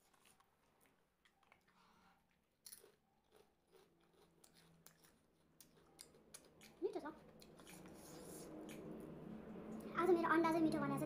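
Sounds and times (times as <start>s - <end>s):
crunchy snack being chewed: 0.0s - 8.9s.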